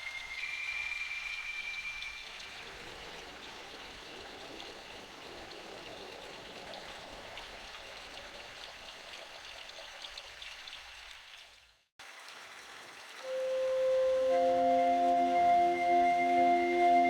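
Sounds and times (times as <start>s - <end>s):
steady rain in a forest: 0.0s - 17.0s
raindrops pattering: 2.1s - 17.0s.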